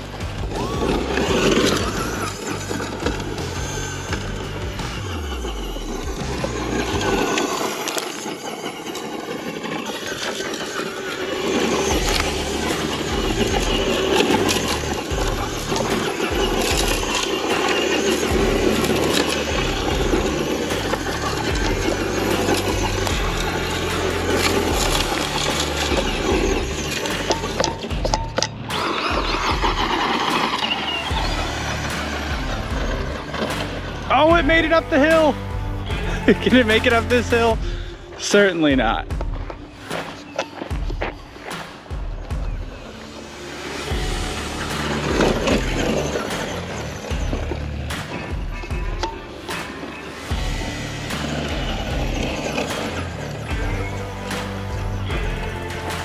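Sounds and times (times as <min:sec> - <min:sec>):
toy truck motor running: 0:00.0 - 0:37.8, 0:43.1 - 0:56.0
background music: 0:00.0 - 0:56.0
tyres spinning in sand: 0:00.0 - 0:56.0.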